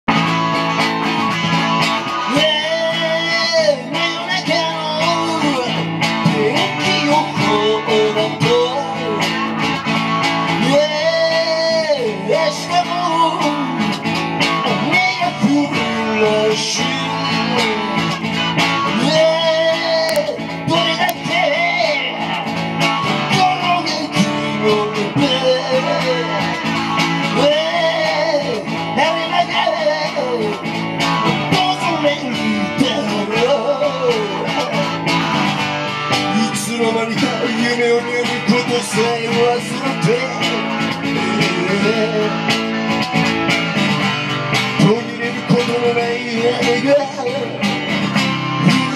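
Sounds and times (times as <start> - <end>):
live guitar band music: 0.0 - 48.9.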